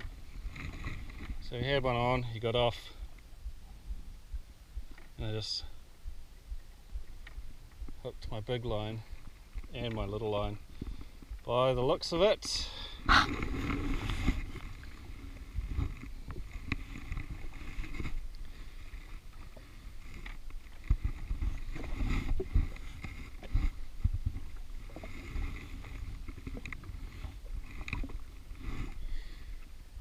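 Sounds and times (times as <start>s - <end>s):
small waves lapping against hull: 0.0s - 30.0s.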